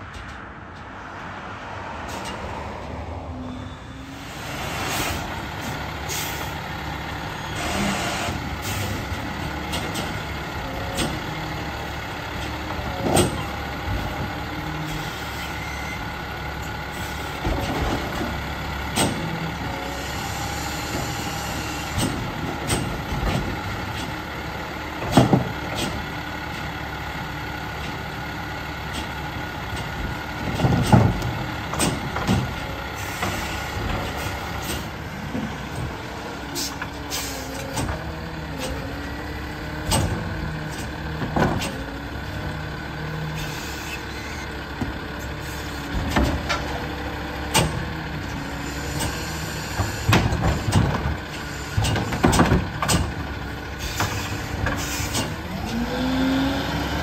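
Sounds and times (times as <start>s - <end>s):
diesel engine running: 2.0s - 57.0s.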